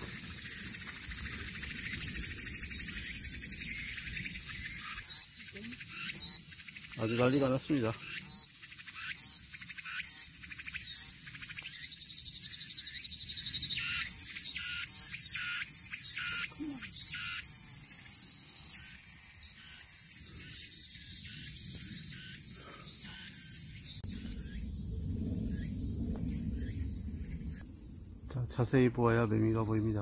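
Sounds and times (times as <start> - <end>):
cicadas singing: 0.0 - 30.0.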